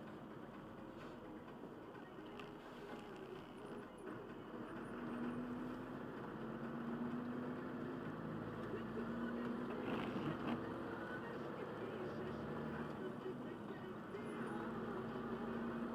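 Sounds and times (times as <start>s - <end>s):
truck engine drone: 0.0s - 15.9s.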